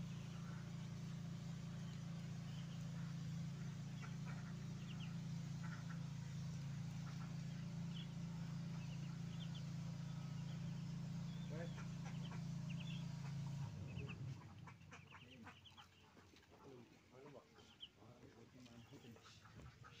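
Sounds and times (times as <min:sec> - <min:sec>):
ducklings peeping: 0:00.0 - 0:20.0
steady low hum: 0:00.0 - 0:20.0.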